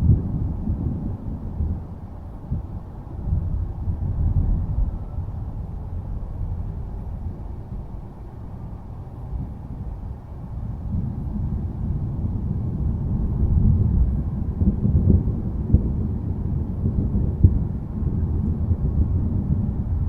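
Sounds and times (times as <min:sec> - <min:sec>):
rolling thunder rumble: 0:00.0 - 0:20.0.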